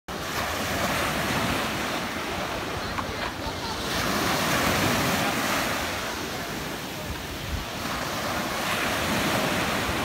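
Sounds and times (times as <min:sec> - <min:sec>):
sea waves breaking on shore: 0:00.1 - 0:10.0.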